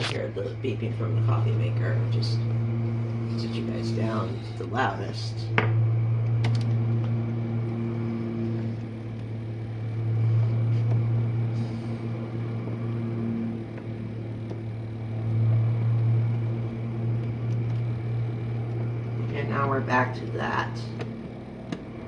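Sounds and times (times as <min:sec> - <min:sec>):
dishwasher pump humming: 0:00.0 - 0:22.0.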